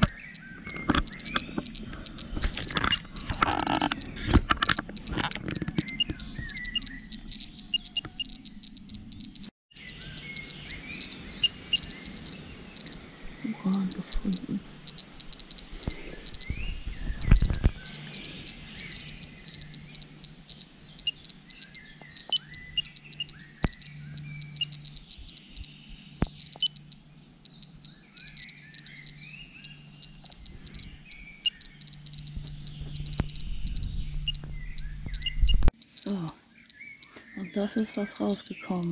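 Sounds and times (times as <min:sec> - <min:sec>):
birds chirping: 0:00.0 - 0:38.9
radiation detector beeps: 0:00.0 - 0:38.9.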